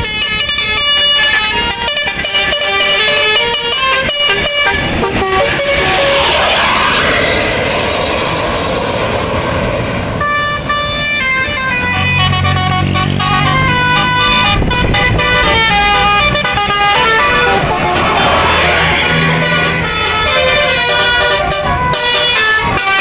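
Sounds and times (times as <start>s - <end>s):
multi-tone bus air horn tune: 0.0s - 8.6s, 10.2s - 23.0s
bus engine hum: 0.0s - 23.0s
loud noisy rush: 3.1s - 23.0s.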